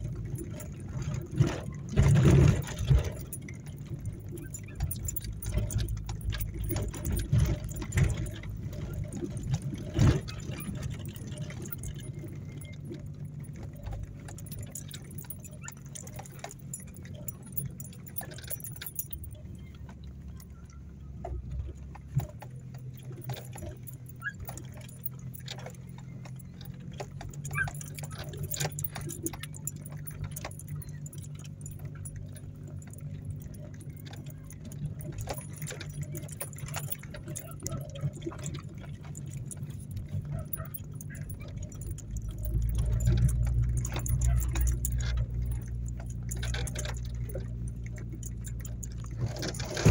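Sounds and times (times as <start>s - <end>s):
car engine running: 0.0s - 49.9s
car interior rattling and jingling: 0.0s - 49.9s.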